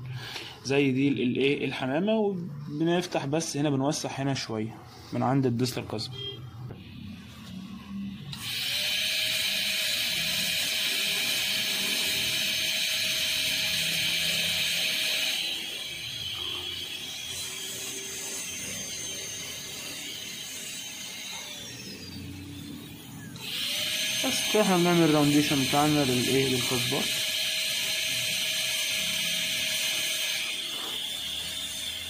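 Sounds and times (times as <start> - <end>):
dental drill whining: 6.1 - 32.0.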